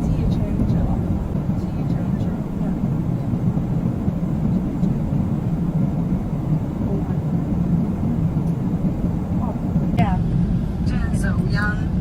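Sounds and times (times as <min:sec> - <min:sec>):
airliner cabin roar: 0:00.0 - 0:12.0.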